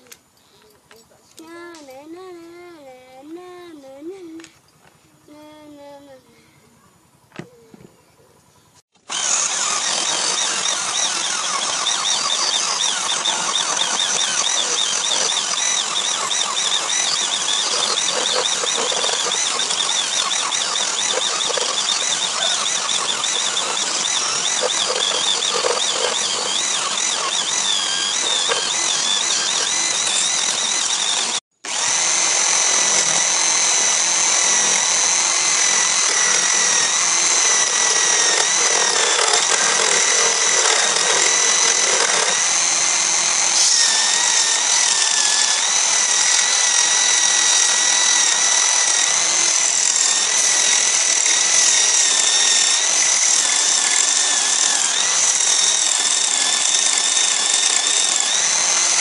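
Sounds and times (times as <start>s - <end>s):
chisel cutting spinning wood: 8.9s - 59.0s
electric drill motor whine: 8.9s - 59.0s.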